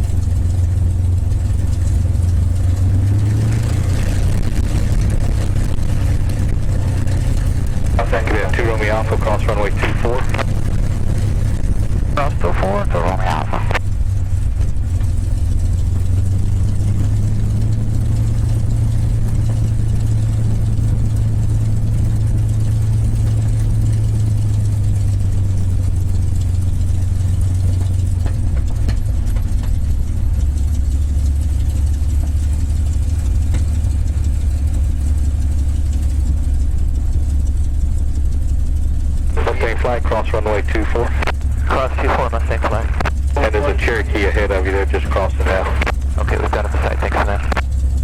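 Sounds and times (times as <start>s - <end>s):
aircraft engine droning: 0.0s - 48.0s.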